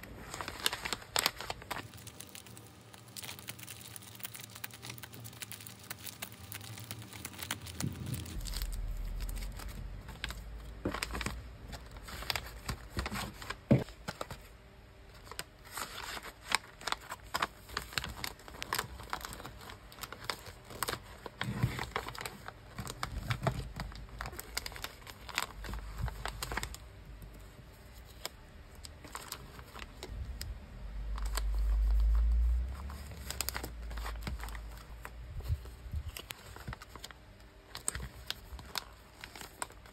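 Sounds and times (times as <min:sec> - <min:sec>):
plastic and paper bags crinkling: 0:00.0 - 0:39.9.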